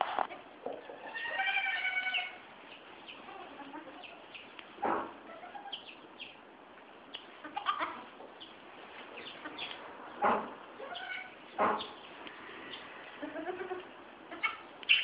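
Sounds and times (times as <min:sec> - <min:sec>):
farm animals calling: 0:00.7 - 0:06.4, 0:07.4 - 0:15.0.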